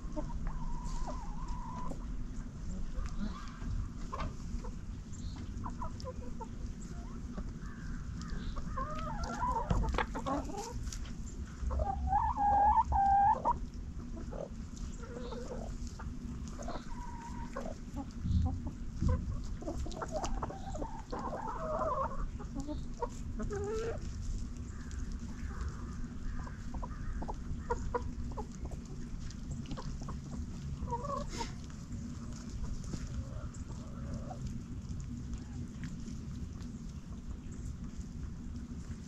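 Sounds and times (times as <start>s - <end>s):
chickens clucking and calling: 0.0s - 39.0s.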